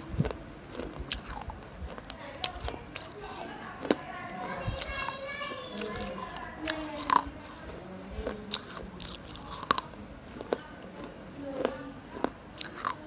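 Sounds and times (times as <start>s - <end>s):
crunchy biting and chewing: 0.0s - 13.0s.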